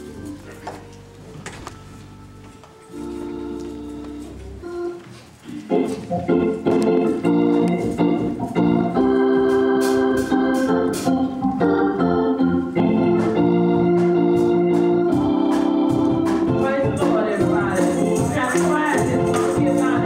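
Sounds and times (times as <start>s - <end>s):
organ playing held chords: 0.0s - 20.0s.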